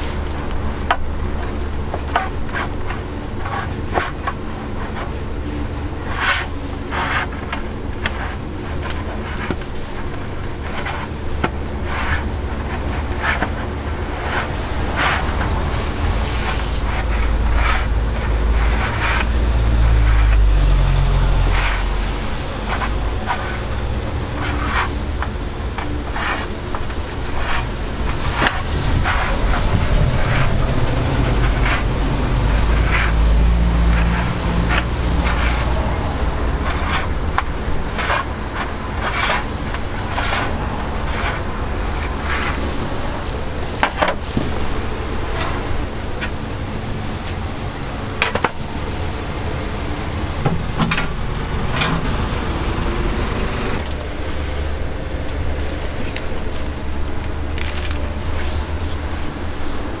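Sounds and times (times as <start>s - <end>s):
low street traffic rumble: 0.0s - 60.0s.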